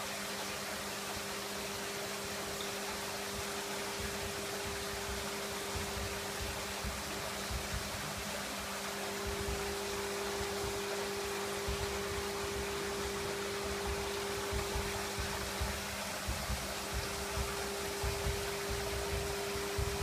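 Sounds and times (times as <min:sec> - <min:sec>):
even hiss: 0:00.0 - 0:20.0
machine hum with low tones: 0:00.0 - 0:20.0.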